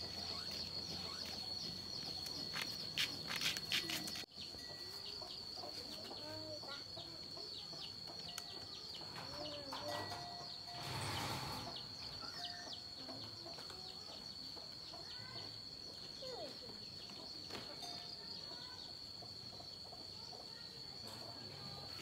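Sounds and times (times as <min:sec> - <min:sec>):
bird chirps: 0:00.0 - 0:21.5.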